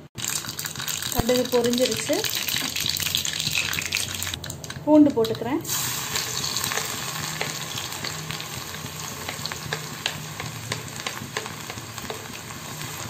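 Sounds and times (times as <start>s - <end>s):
garlic sizzling in hot oil: 0.2s - 13.0s.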